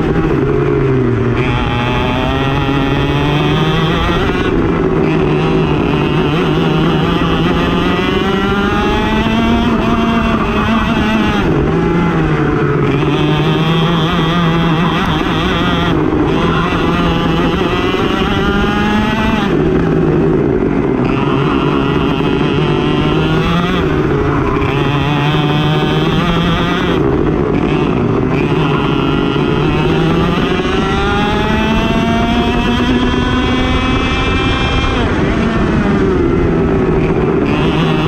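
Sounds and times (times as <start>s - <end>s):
kart engine revving: 0.0s - 38.0s.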